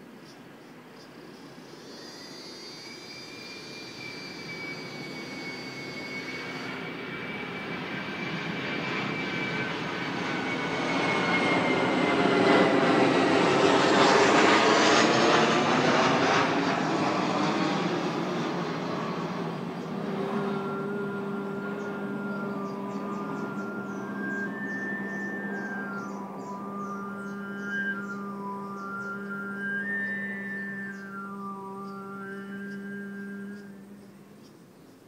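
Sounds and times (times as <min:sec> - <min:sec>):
jet engine high whine: 0:00.0 - 0:35.0
jet airplane passing overhead: 0:01.2 - 0:34.4.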